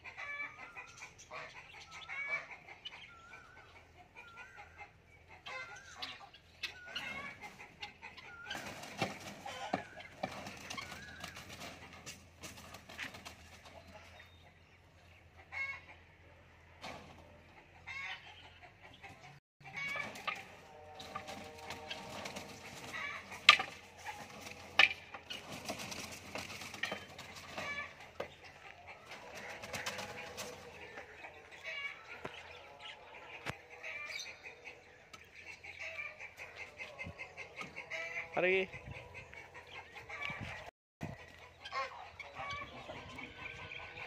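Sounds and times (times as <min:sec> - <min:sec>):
caged birds calling: 0:00.0 - 0:44.0.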